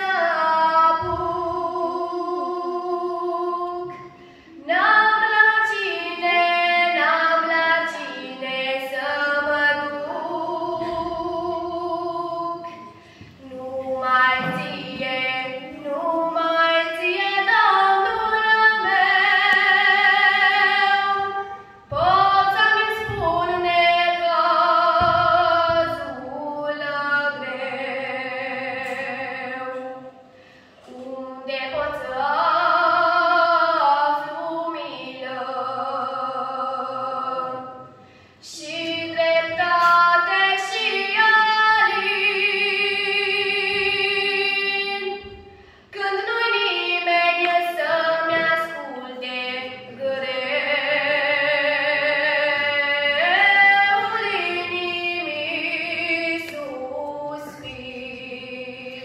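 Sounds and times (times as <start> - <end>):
woman singing a hymn: 0.0 - 59.0.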